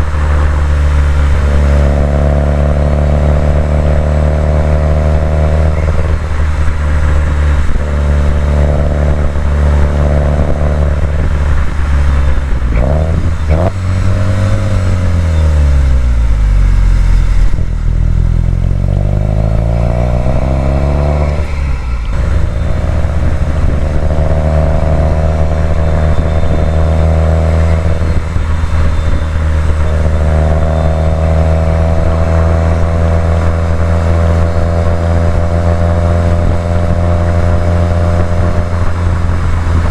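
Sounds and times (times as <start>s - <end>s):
car engine revving and accelerating: 0.0s - 39.9s.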